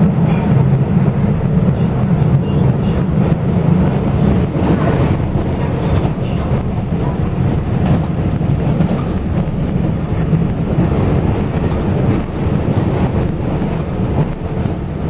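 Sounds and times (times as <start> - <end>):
train rumbling from inside carriage: 0.0 - 15.0.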